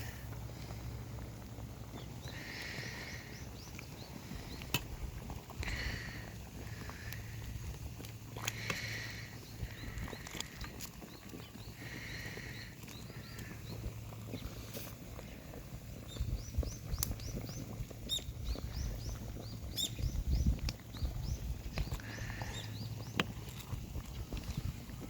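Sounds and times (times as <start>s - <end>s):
bonfire popping: 0.0s - 25.0s
low steady fire rumble: 0.0s - 25.0s.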